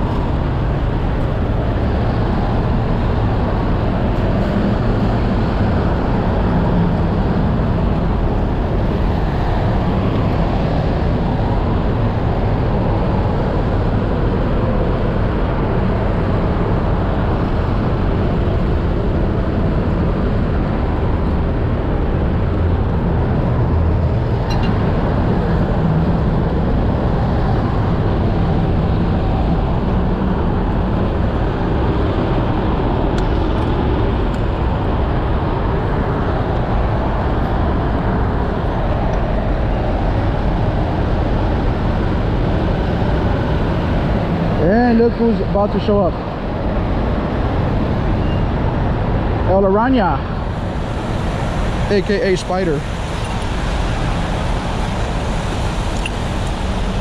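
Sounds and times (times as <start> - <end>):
road traffic: 0.0 - 57.0
vehicle engines: 0.0 - 57.0.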